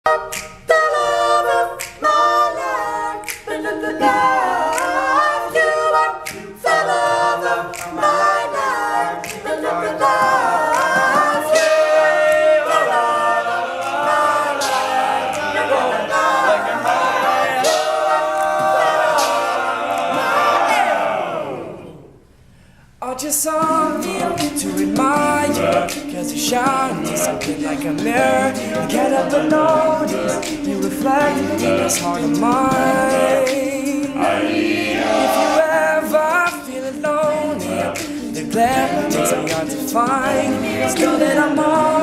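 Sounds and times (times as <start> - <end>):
vocal percussion beat: 0.0 - 22.3, 23.0 - 42.0
male group singing in harmony: 0.1 - 21.9, 23.6 - 42.0.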